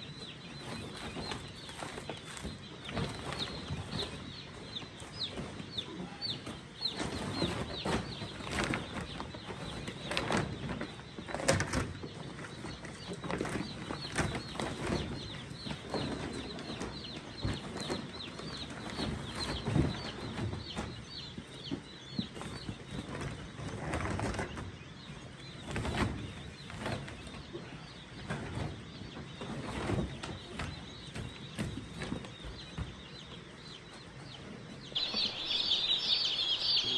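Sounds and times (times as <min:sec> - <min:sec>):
rustling and knocks of handling: 0:00.0 - 0:35.4
chicks peeping: 0:00.0 - 0:36.9.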